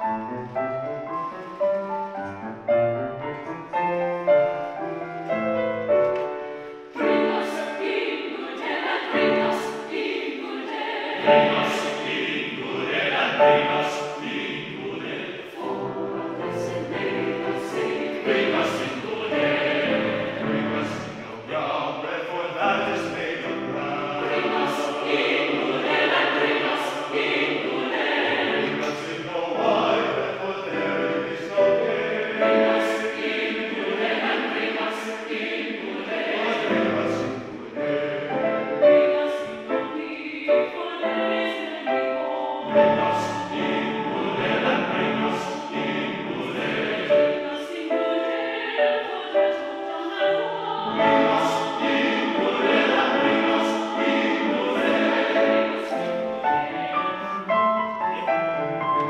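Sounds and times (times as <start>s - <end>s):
choir singing: 0.0s - 2.6s, 3.6s - 59.0s
grand piano playing: 0.0s - 59.0s.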